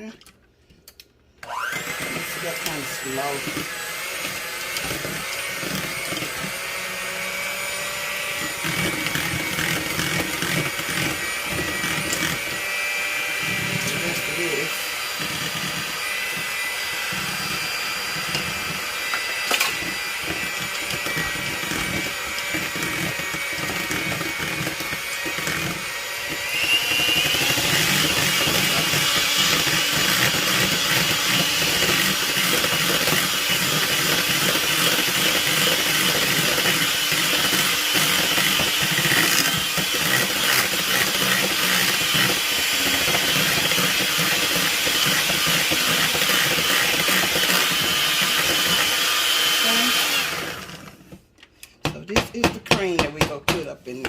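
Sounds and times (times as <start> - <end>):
electric hand mixer whining: 1.4 - 51.2.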